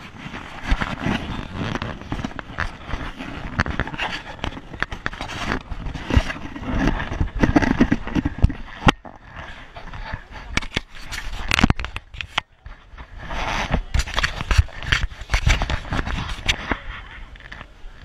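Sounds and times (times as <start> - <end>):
camera rubbing against clothing: 0.0 - 18.0.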